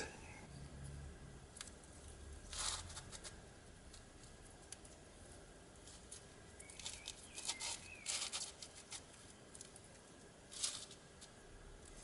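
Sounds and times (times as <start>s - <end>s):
frozen fruit scraping and crackling: 1.6s - 5.0s, 5.8s - 12.0s.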